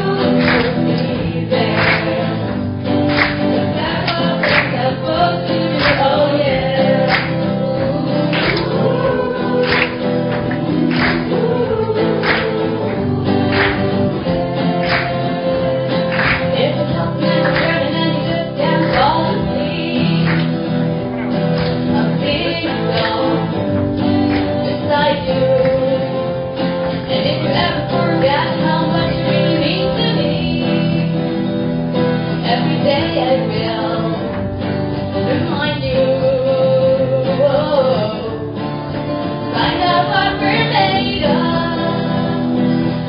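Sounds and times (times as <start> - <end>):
group of people singing: 0.0 - 31.5, 32.2 - 43.0
acoustic guitars: 0.0 - 43.0.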